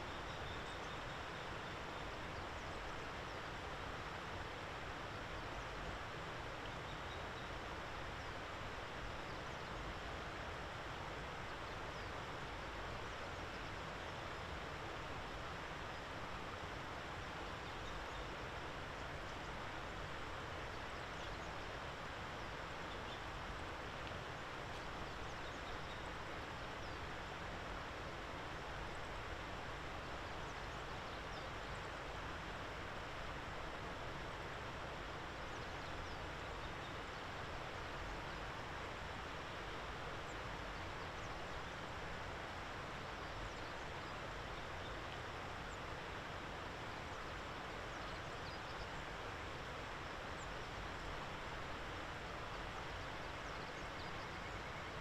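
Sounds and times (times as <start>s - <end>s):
outdoor hiss ambience: 0.0s - 55.0s.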